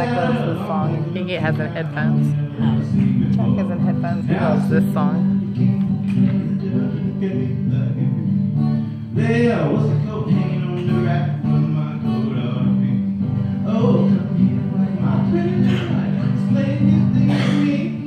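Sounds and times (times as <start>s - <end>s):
acoustic guitar: 0.0s - 18.0s
man singing: 0.0s - 18.0s.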